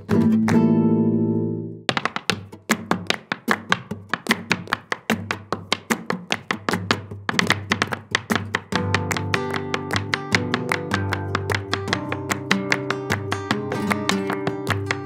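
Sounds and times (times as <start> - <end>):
flamenco guitar: 0.0 - 15.0
dance footwork on wooden floor: 1.9 - 15.0.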